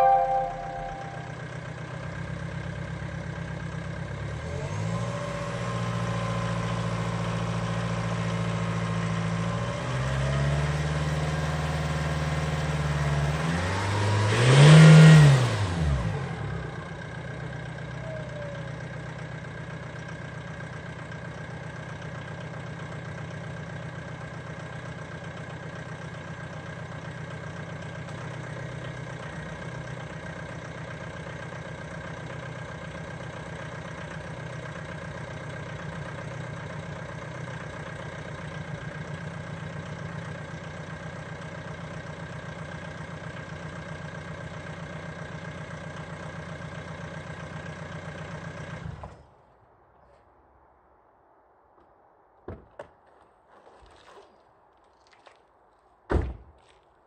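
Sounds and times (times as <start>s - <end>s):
diesel engine revving and idling: 0.9s - 49.4s.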